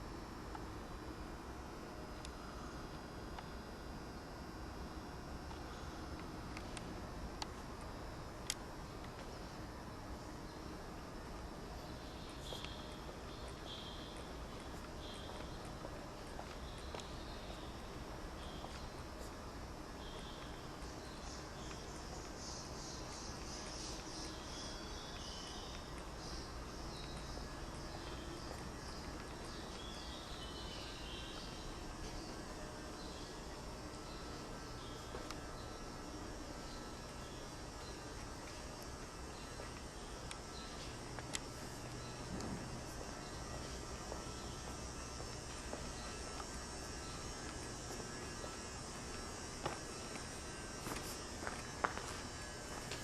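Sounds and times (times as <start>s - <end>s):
low room hum: 0.0s - 53.0s.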